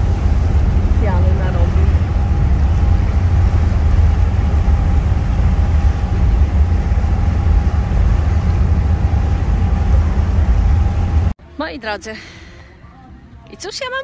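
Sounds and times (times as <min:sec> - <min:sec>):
ferry low rumble: 0:00.0 - 0:11.4.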